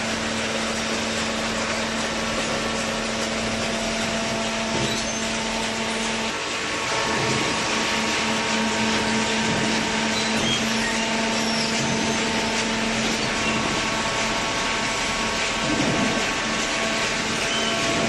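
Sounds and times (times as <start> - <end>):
baler motor hum and whine: 0.0 - 18.0.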